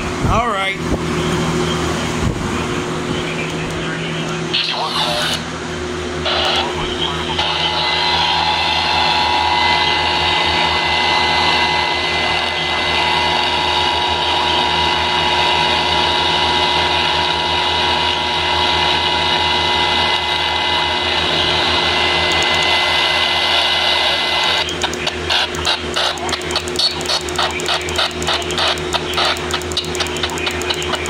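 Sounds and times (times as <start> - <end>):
radio static hiss: 1.6 - 5.5, 6.1 - 15.9, 19.4 - 31.0.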